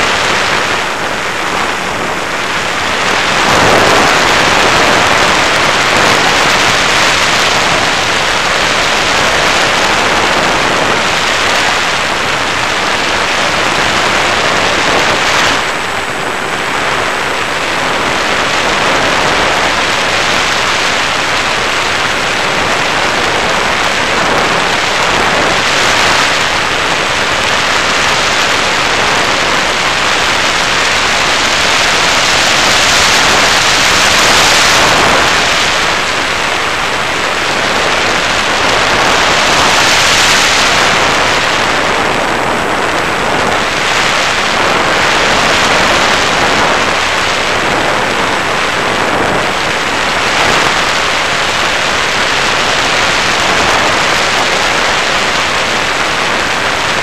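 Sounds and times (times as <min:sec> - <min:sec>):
model plane propeller noise: 0:00.0 - 0:57.0
rushing wind: 0:00.0 - 0:57.0.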